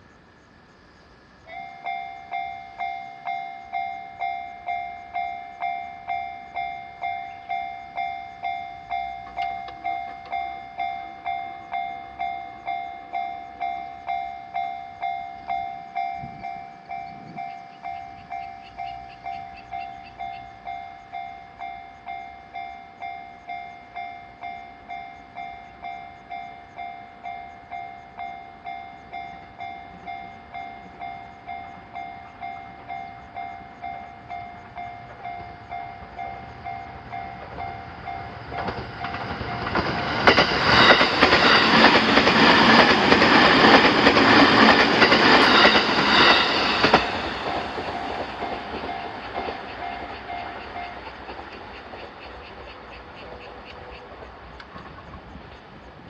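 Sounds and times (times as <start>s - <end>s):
train passing: 0.0s - 56.0s
railroad crossing bell ringing: 1.3s - 56.0s
wheels clattering over rail joints: 1.8s - 21.0s, 21.6s - 56.0s.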